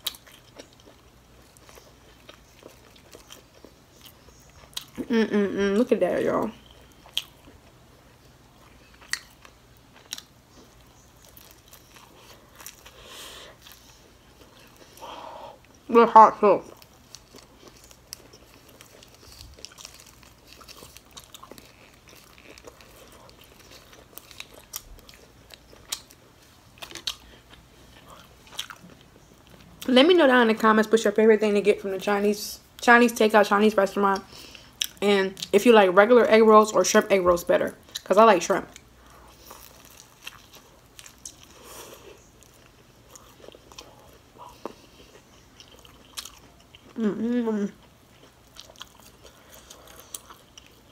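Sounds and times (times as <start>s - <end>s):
chewing crunchy food: 0.0s - 5.1s, 6.4s - 15.9s, 16.7s - 29.9s, 37.6s - 50.9s.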